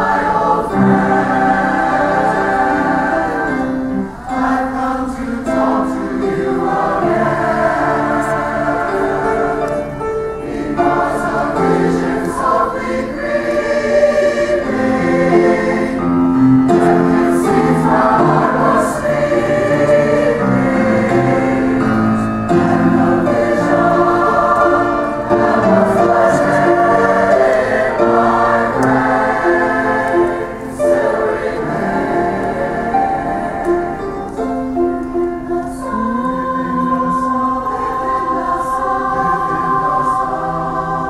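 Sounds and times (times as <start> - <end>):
mixed choir singing in harmony: 0.0 - 41.0.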